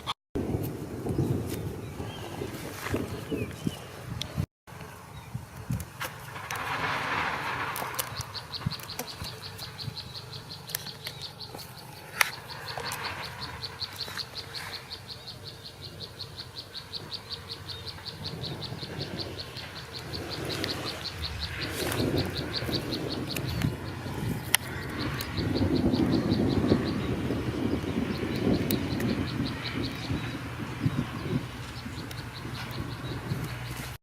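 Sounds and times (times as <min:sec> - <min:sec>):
insect chirping: 0:06.2 - 0:33.9.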